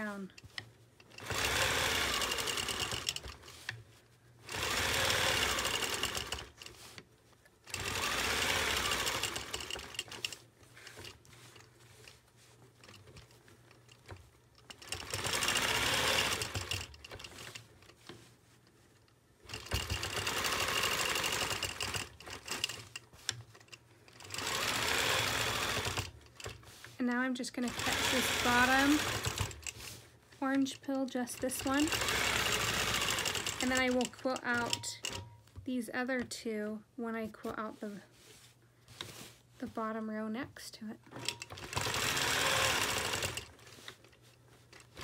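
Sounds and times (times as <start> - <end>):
quilting machine stitching: 0.0 - 35.3, 41.0 - 45.0.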